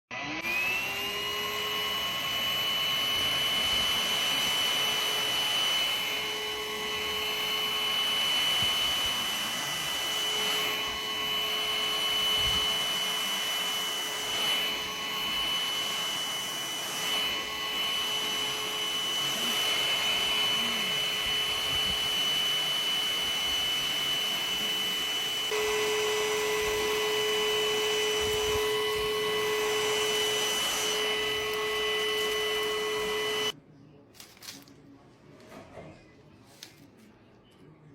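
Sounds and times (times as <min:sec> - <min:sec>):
vacuum cleaner running: 0:00.1 - 0:33.6.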